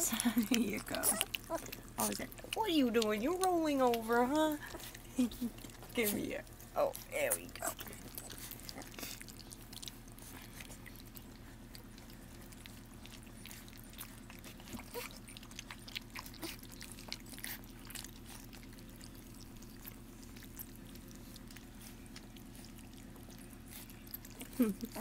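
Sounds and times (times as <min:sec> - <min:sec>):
puppies lapping food: 0:00.0 - 0:25.0
steady low hum: 0:00.0 - 0:25.0.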